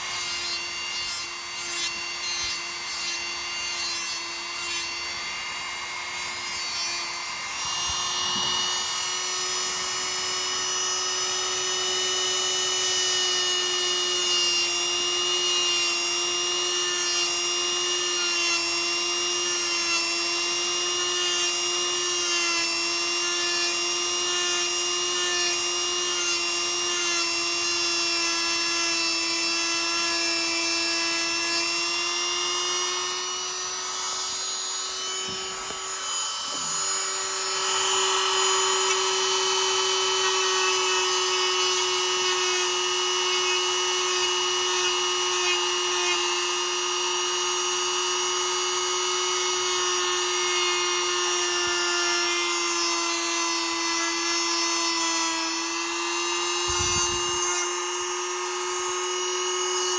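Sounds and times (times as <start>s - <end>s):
rotary tool whining: 0.0s - 59.9s.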